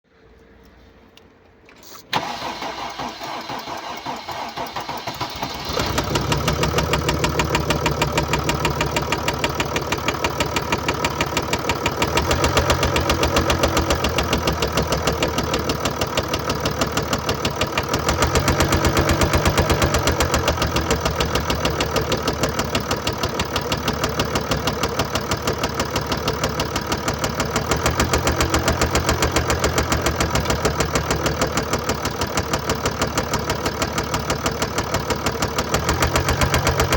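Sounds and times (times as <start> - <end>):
diesel engine starting and idling: 1.8 - 36.9.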